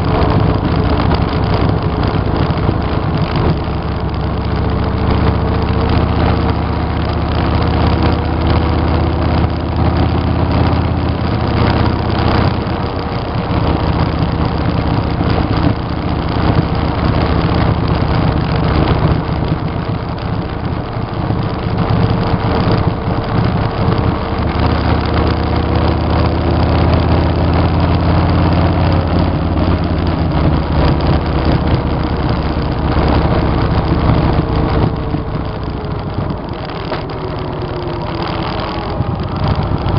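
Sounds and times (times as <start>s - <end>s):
motorcycle engine running: 0.0s - 39.9s
wind noise rushing: 0.0s - 39.9s.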